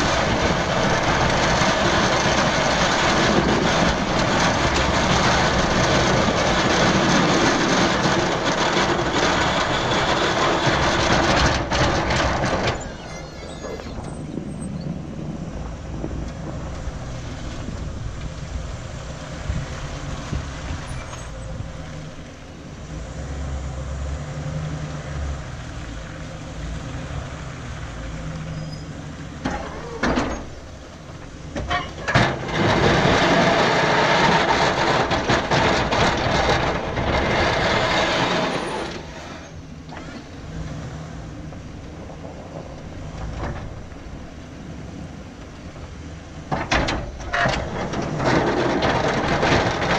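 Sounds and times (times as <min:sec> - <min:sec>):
truck engine and road noise: 0:00.0 - 0:49.9.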